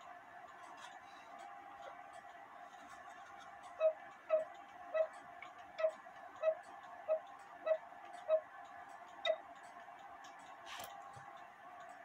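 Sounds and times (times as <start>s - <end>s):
mechanical clock ticking: 0.0s - 12.0s.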